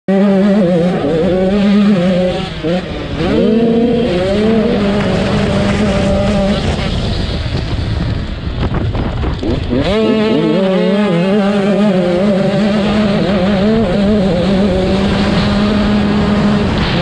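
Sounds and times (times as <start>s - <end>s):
motocross bike engine revving: 0.1s - 8.5s, 9.3s - 17.0s.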